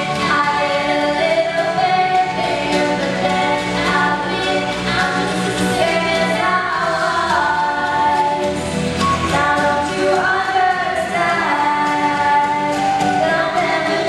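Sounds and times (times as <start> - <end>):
two women singing duet: 0.0 - 14.0.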